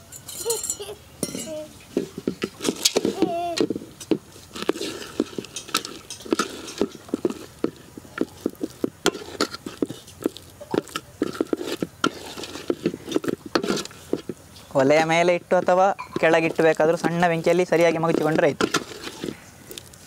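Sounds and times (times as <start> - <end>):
ladle scraping metal pot: 0.2 - 19.8
peanuts clattering: 2.0 - 20.0.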